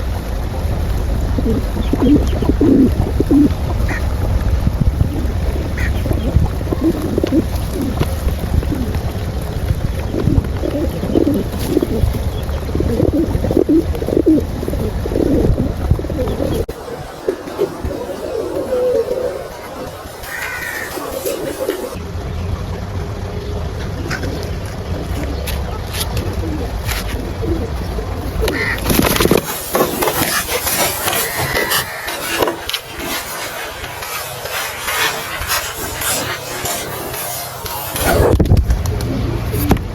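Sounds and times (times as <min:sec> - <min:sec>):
steady low rumble: 0:00.0 - 0:18.2, 0:21.9 - 0:29.8, 0:32.6 - 0:39.9
pigeons cooing: 0:00.0 - 0:22.4, 0:23.3 - 0:39.9.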